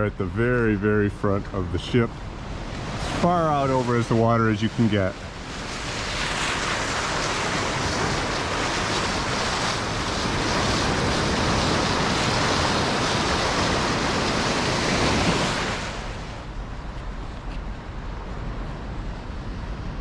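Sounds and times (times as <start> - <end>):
wind and sea rushing at bow: 0.0 - 20.0.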